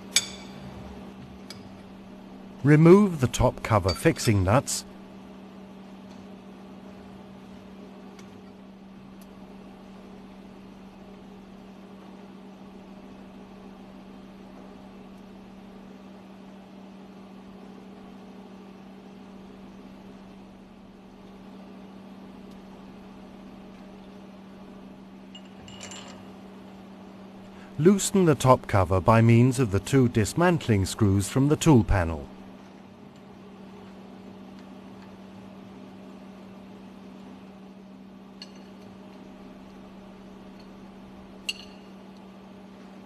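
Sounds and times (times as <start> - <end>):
engine room machinery hum: 0.0 - 43.0.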